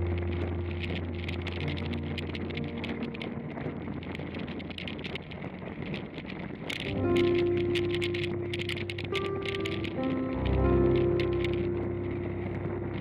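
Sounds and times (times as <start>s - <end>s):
background music held notes: 0.0s - 5.5s, 6.7s - 13.0s
wind and road noise: 0.0s - 13.0s
bicycle clicks and rattles: 0.1s - 11.7s.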